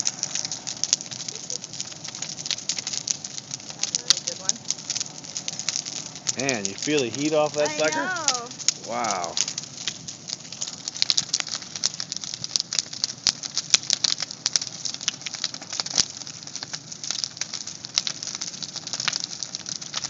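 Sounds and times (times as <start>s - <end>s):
bonfire crackling and popping: 0.0s - 20.0s
rush of flame: 0.0s - 20.0s.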